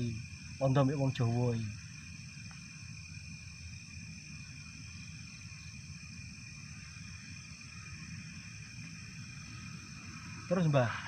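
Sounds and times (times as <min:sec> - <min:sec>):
crickets chirring: 0:00.0 - 0:11.0
low uneven rumble: 0:00.0 - 0:11.0.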